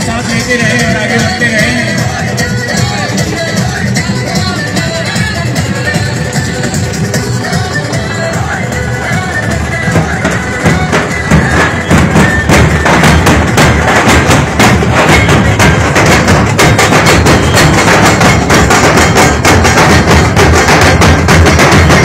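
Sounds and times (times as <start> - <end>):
loud music with heavy drumming: 0.0 - 22.0.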